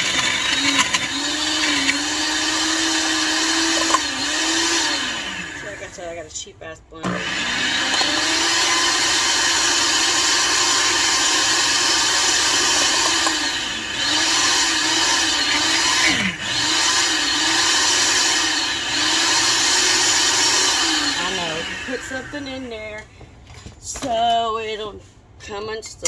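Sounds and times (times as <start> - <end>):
blender running: 0.0 - 6.1, 7.0 - 22.9.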